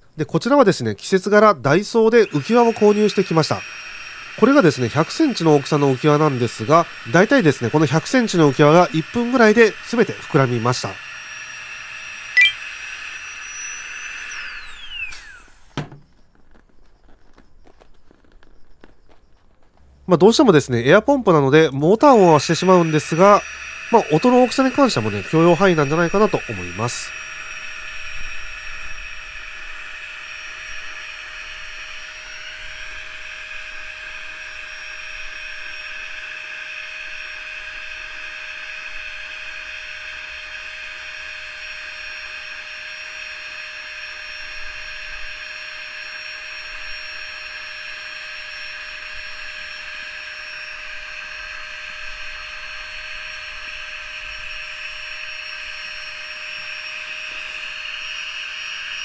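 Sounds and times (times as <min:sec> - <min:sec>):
electric air pump whirring: 0:01.7 - 0:16.2, 0:21.7 - 0:59.0.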